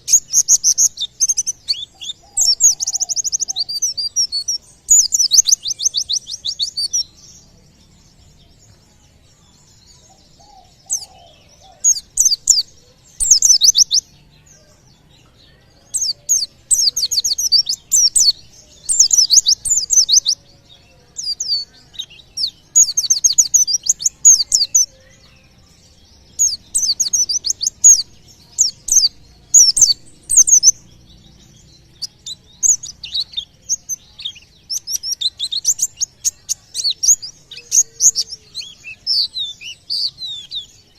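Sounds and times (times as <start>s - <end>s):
bird rapid high chirping song: 0.0s - 40.9s.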